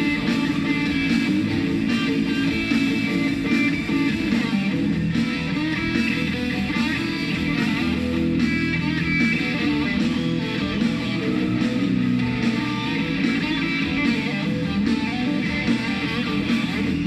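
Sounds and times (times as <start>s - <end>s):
bass guitar: 0.0s - 17.0s
drums: 0.0s - 17.0s
electric guitar: 0.0s - 17.0s.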